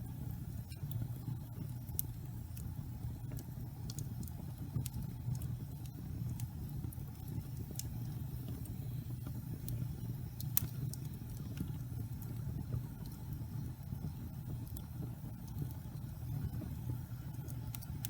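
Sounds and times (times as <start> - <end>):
fire rumbling: 0.0 - 18.0
logs crackling and popping: 0.2 - 18.0.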